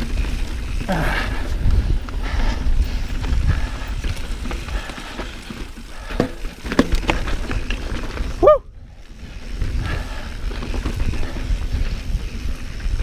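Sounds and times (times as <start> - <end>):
wind rumble on microphone: 0.0 - 6.1, 6.8 - 13.0
bike rattling over rocks: 0.0 - 13.0.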